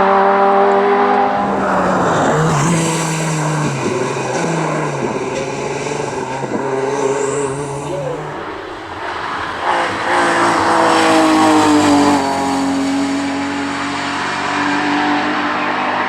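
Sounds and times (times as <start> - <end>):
race car engine passing: 0.0 - 16.0.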